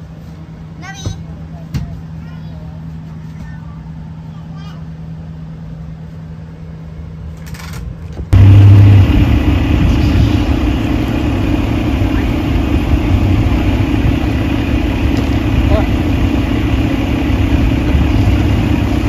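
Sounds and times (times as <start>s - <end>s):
loud low engine rumble: 0.0s - 19.0s
engine idling hum: 2.6s - 19.0s.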